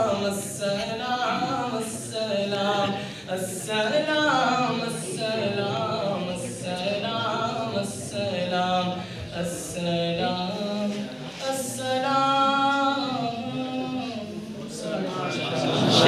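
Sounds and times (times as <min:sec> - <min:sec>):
young man singing unaccompanied: 0:00.0 - 0:15.2.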